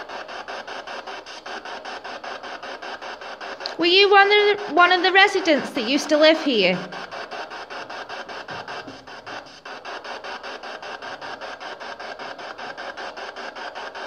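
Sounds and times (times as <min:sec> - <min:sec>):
pulsing radio static: 0:00.0 - 0:14.0.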